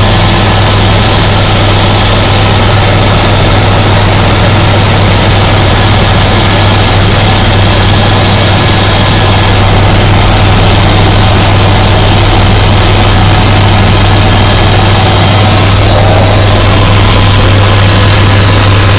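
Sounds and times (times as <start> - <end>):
helicopter engine and rotors: 0.0 - 18.9.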